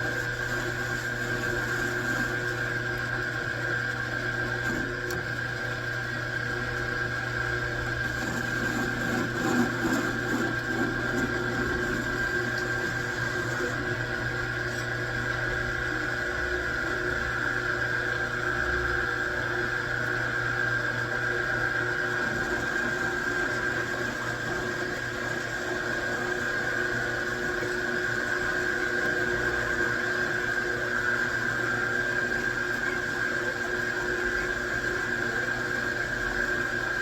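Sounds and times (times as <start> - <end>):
machine tool motor hum with whine: 0.0 - 37.0.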